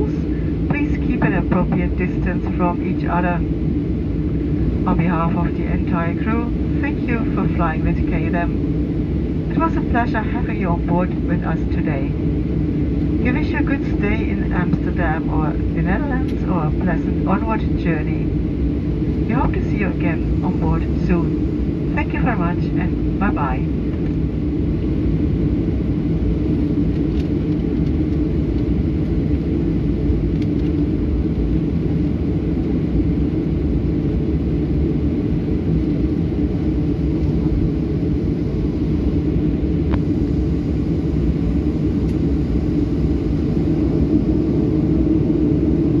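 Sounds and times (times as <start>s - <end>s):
aircraft cabin engine rumble: 0.0s - 46.0s.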